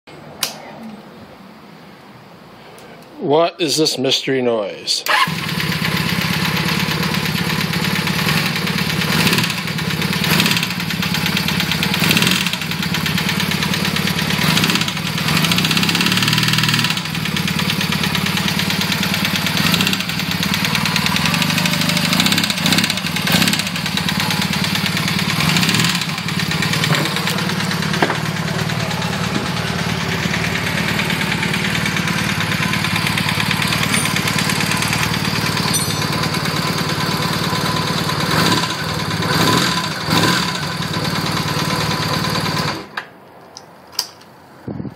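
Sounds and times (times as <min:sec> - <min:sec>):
motorcycle engine idling: 0:05.1 - 0:42.8
engine revving: 0:05.1 - 0:42.9.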